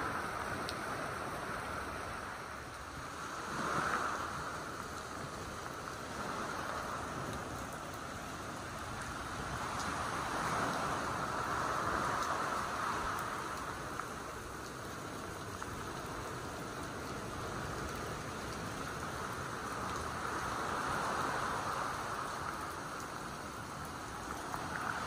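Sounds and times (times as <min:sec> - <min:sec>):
waves washing up pebble beach: 0:00.0 - 0:16.3, 0:17.3 - 0:25.0
steady rain: 0:00.0 - 0:25.0.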